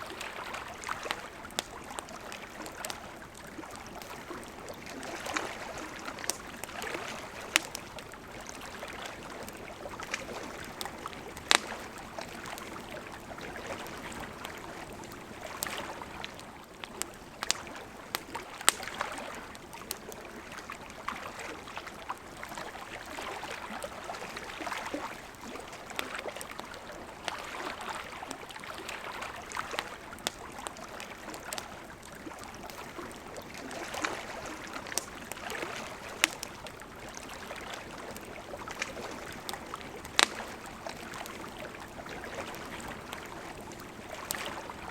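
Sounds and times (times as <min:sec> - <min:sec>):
campfire crackling and popping: 0:00.0 - 0:44.9
lake waves lapping shore: 0:00.0 - 0:44.9.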